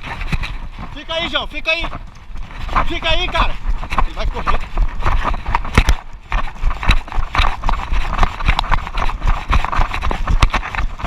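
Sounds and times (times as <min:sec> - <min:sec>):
running footsteps: 0:00.0 - 0:11.0.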